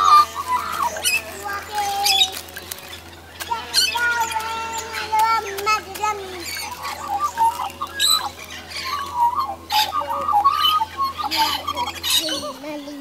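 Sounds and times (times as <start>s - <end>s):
faint low hum: 0.0s - 13.0s
magpies warbling and chattering: 0.0s - 13.0s.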